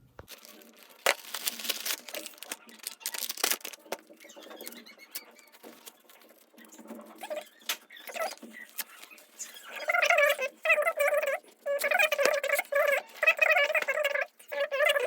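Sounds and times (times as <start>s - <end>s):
plastic packaging rustling: 0.2s - 15.0s.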